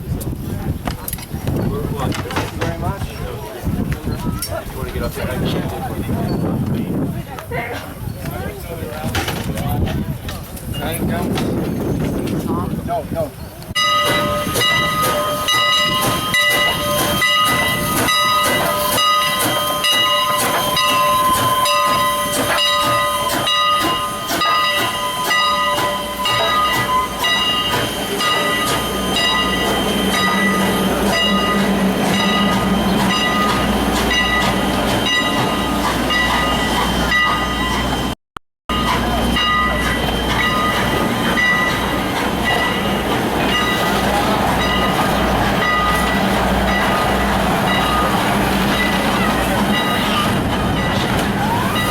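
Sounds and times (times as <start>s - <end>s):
train clanks and rattles: 0.0s - 51.9s.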